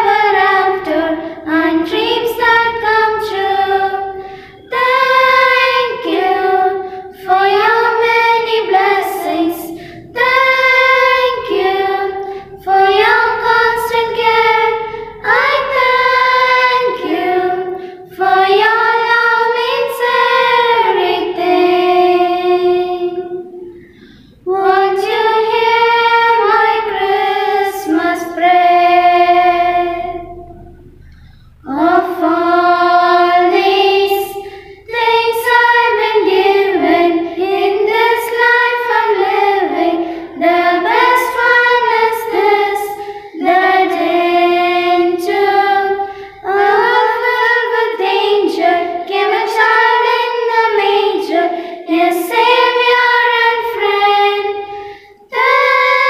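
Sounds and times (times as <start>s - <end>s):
child singing: 0.0s - 23.8s, 24.4s - 30.7s, 31.6s - 56.0s.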